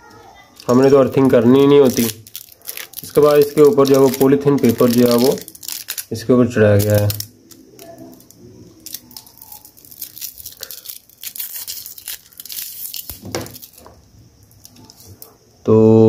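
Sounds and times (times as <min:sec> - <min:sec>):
foil and plastic film crinkling: 0:00.4 - 0:15.3.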